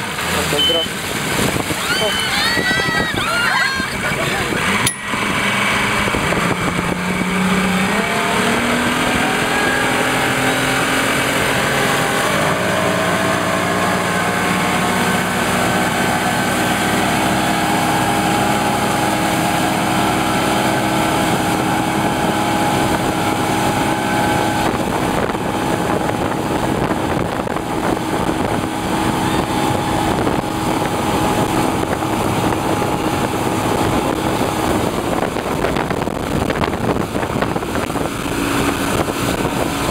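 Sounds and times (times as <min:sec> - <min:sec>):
outboard motor running: 0:00.0 - 0:39.9
wake churning: 0:00.0 - 0:39.9.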